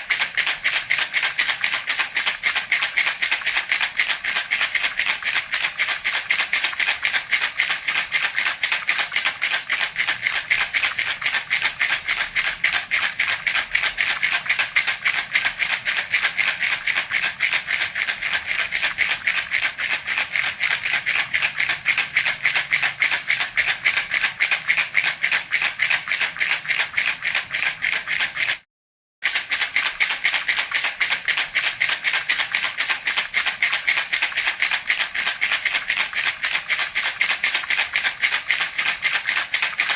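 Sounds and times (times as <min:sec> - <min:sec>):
baby rattle shaken: 0:00.0 - 0:28.6, 0:29.2 - 0:39.9.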